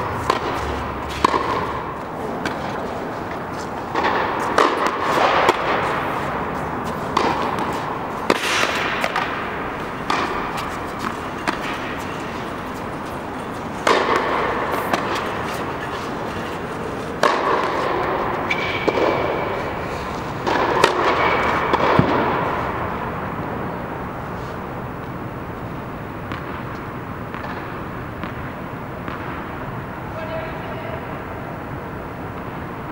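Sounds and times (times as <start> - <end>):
tennis balls struck and bouncing: 0.0 - 30.4, 31.7 - 32.9
steady background hiss: 0.0 - 32.9.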